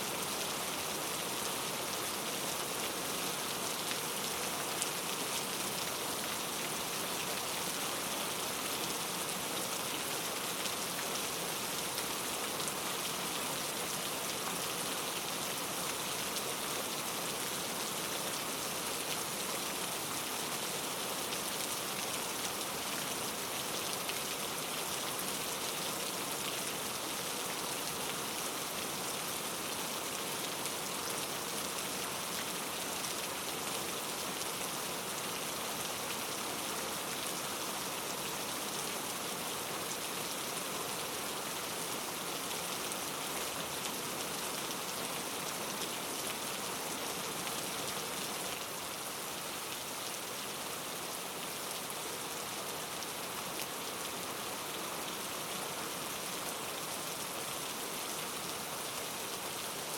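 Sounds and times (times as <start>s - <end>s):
rain pattering on surface: 0.2s - 59.9s.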